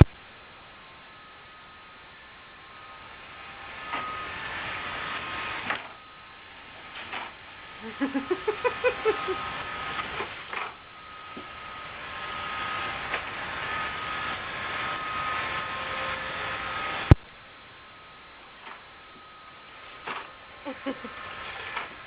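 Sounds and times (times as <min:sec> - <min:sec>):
robot vacuum motor whine: 0:00.8 - 0:17.2, 0:18.6 - 0:22.0.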